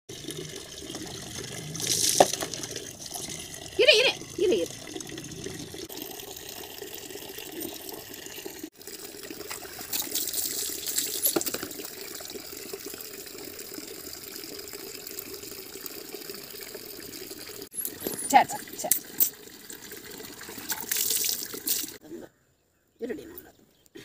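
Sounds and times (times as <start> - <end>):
tap water running into bucket: 0.1 - 22.0.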